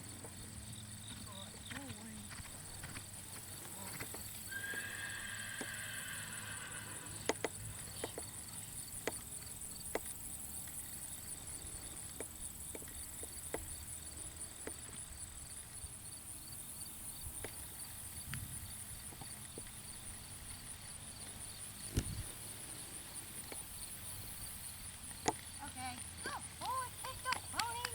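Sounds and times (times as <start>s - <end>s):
horse hooves clopping: 0.0s - 15.8s, 17.1s - 27.9s.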